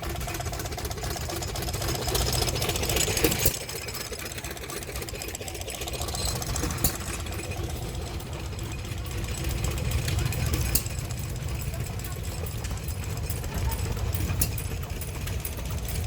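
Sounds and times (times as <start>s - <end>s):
stationary engines clattering: 0.0s - 16.0s.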